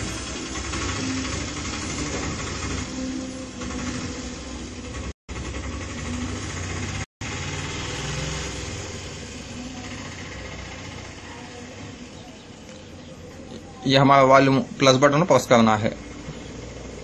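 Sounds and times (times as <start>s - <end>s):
engine running hum: 0.0s - 13.8s, 15.4s - 17.0s.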